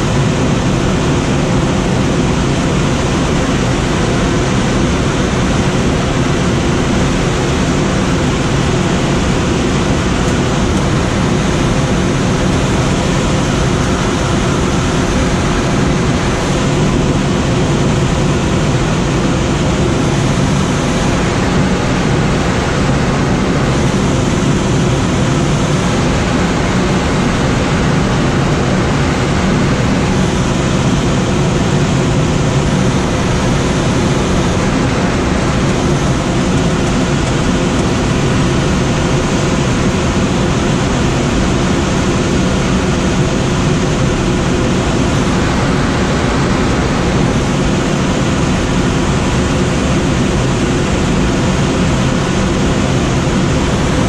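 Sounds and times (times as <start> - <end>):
wind rushing past glider: 0.0 - 54.0.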